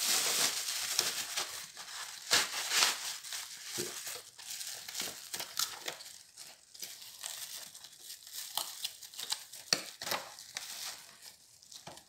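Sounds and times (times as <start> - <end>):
cardboard and plastic rustling: 0.0 - 12.0.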